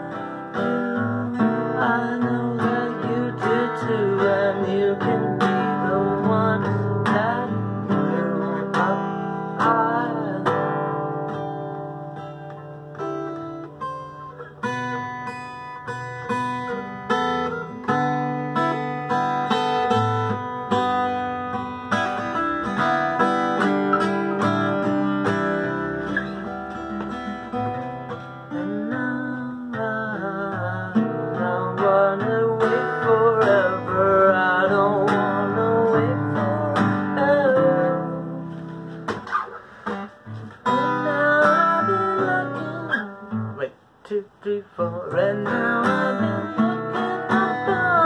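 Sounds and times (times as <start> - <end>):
acoustic guitar strumming: 0.0 - 48.0.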